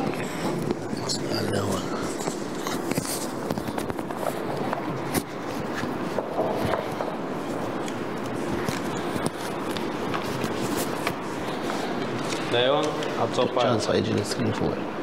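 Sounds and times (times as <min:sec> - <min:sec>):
murmur of people: 0:00.0 - 0:15.0.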